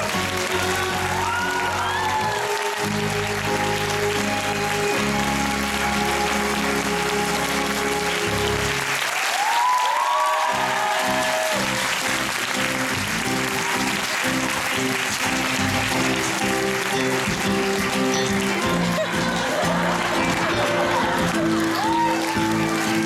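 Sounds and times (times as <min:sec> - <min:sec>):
audience applauding: 0:00.0 - 0:23.0
stage musical music: 0:00.0 - 0:23.0.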